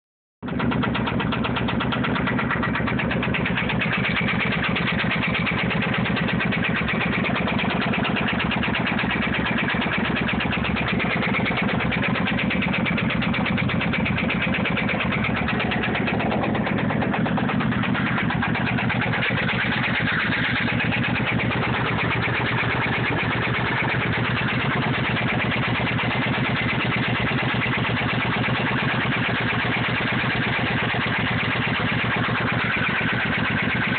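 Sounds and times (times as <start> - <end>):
fast regular ticking: 0.4 - 33.9
motorcycle engine idling: 0.4 - 33.9.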